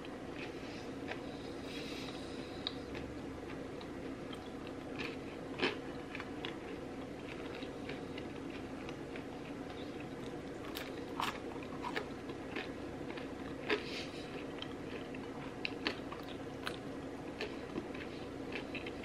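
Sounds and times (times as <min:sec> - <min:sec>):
wet chewing: 0:02.1 - 0:19.0.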